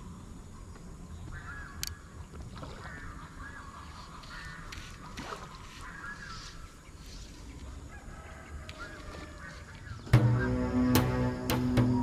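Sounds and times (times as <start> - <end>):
harsh bird calls: 1.0 - 12.0.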